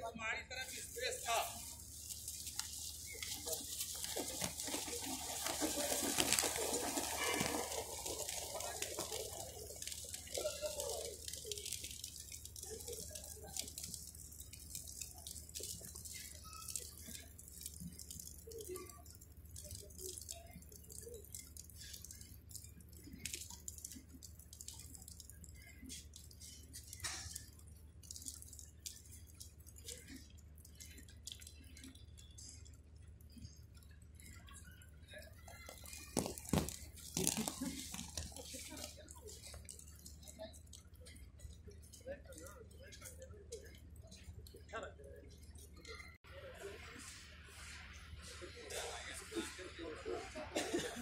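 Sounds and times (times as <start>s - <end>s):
thermite burning with crackles: 0.6s - 46.3s.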